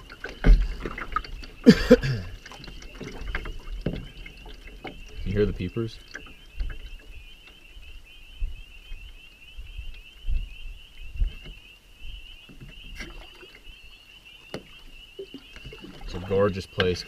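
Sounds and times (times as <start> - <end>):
frogs peeping chorus: 0.0 - 17.0.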